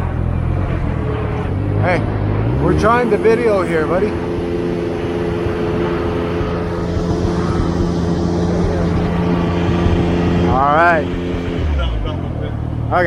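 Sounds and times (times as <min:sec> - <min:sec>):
propeller airplane engine drone: 0:00.0 - 0:13.0.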